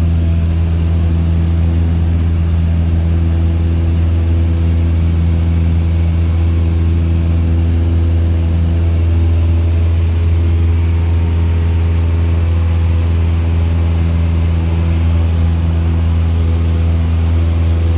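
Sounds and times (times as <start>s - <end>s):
airplane engine drone: 0.0s - 17.9s.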